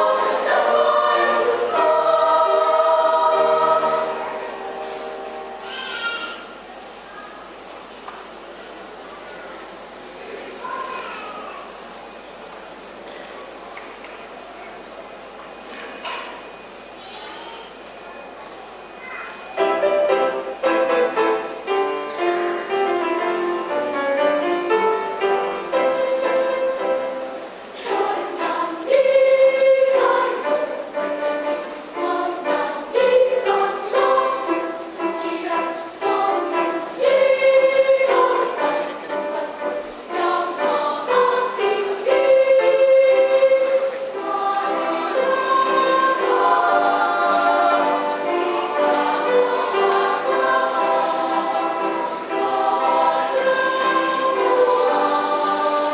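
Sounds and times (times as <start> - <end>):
children's choir singing: 0.0 - 55.9.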